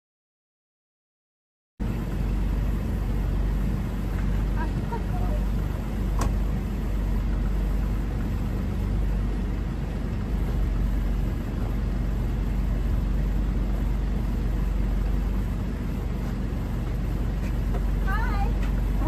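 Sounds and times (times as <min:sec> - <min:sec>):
car engine and road rumble: 0:01.8 - 0:19.0.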